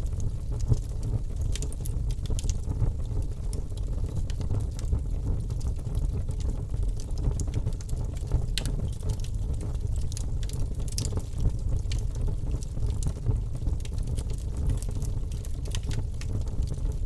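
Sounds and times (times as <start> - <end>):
logs crackling and popping: 0.0 - 17.0.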